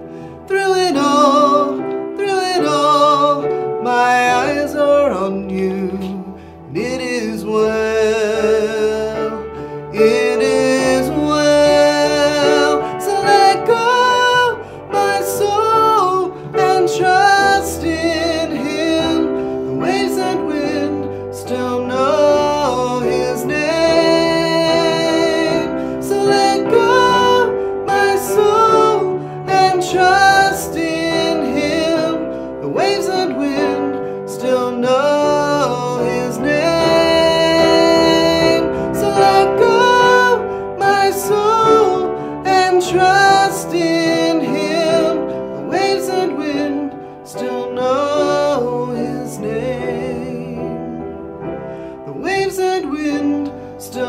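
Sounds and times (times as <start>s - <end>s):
electronic keyboard: 0.0s - 54.0s.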